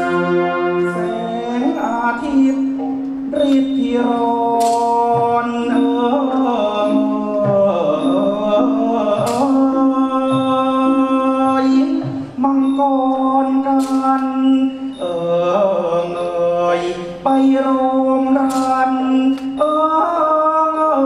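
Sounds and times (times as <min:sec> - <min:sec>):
orchestra playing held chords: 0:00.0 - 0:20.2.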